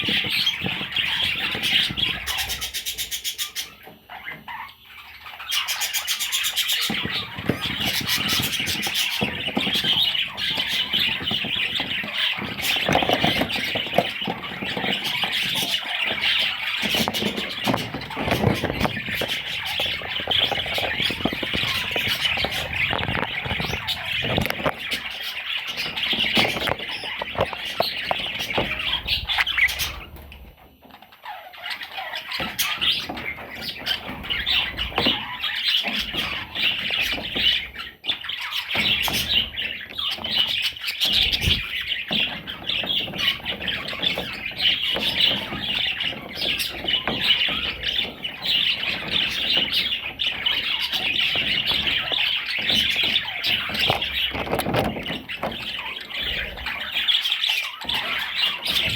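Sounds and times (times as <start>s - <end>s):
budgerigar chattering and warbling: 0.0s - 30.1s, 31.0s - 58.9s.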